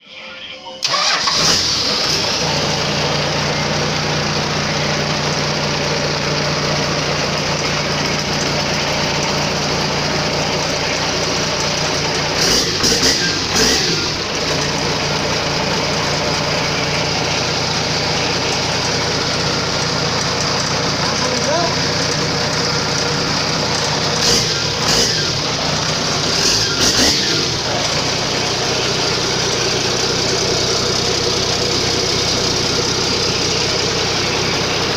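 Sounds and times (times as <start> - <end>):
diesel engine idling: 0.8 - 34.9.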